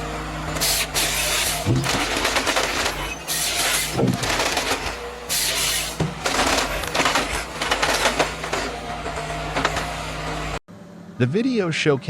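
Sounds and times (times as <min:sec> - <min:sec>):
heavy machine engine running: 0:00.0 - 0:11.1.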